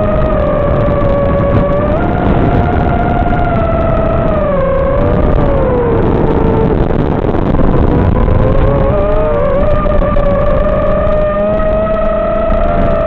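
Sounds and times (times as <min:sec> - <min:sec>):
motor and propeller whine: 0:00.0 - 0:13.0
wind noise on microphone: 0:00.0 - 0:13.0.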